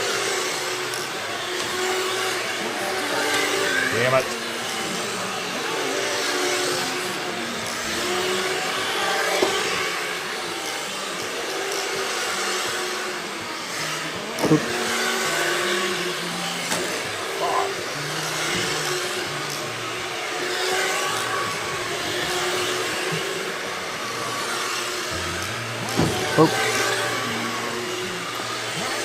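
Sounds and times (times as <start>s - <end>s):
rc car motors whining: 0.0s - 29.0s.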